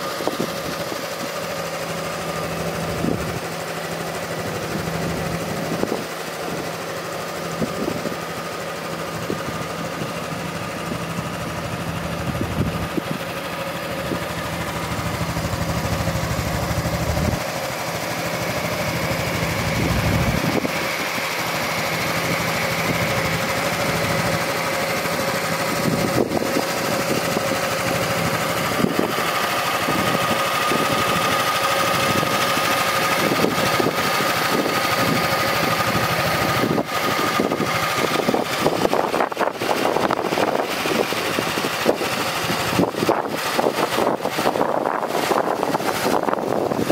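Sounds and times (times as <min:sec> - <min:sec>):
scooter engine idling: 0:00.0 - 0:46.9.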